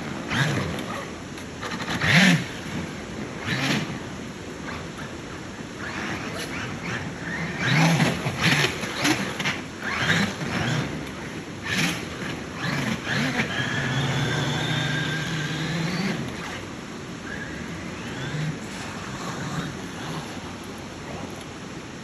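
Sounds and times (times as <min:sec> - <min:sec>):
electric toy car motor whining: 0:00.0 - 0:21.5.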